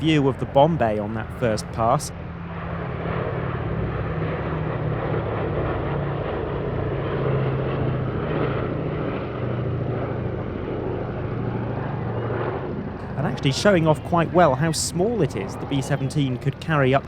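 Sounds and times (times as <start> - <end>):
propeller plane flying past: 0.0 - 17.0.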